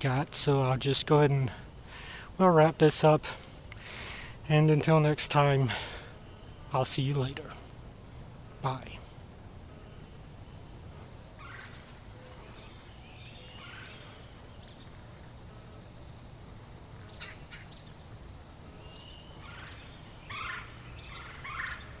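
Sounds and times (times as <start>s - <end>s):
birds calling: 0.0s - 22.0s
low steady background rumble: 0.0s - 22.0s.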